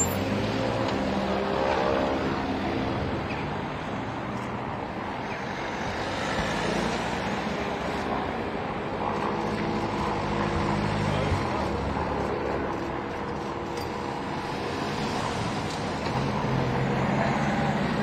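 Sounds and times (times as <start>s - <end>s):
steady road noise: 0.0s - 18.0s
vehicle engines passing: 0.0s - 18.0s.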